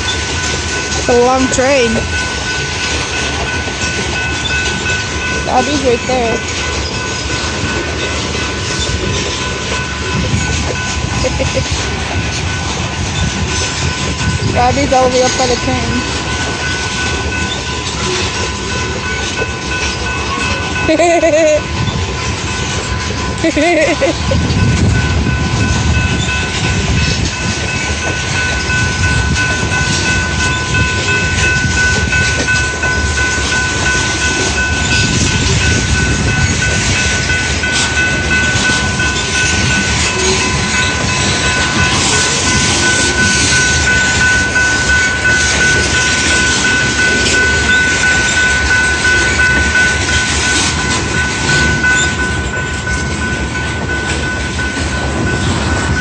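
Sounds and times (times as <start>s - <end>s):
train rumbling and clattering: 0.0s - 56.0s.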